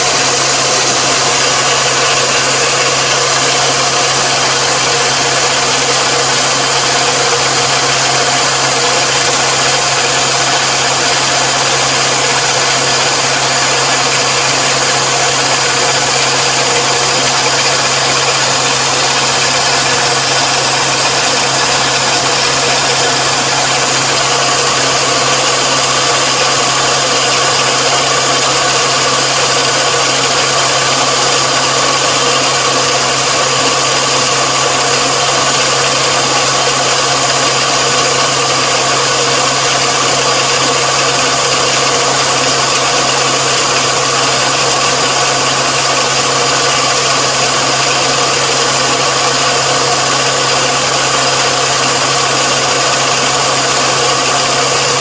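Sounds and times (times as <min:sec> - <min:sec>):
harvester engine droning: 0:00.0 - 0:55.0.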